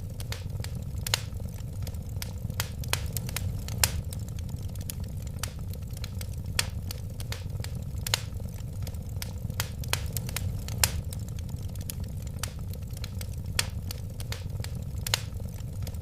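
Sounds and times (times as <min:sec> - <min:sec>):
low rumble of flames: 0:00.0 - 0:16.0
wood fire popping and snapping: 0:00.0 - 0:16.0.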